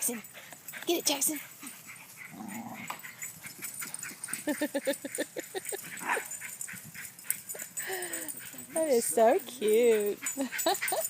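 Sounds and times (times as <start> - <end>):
dogs yipping: 0.1 - 11.0.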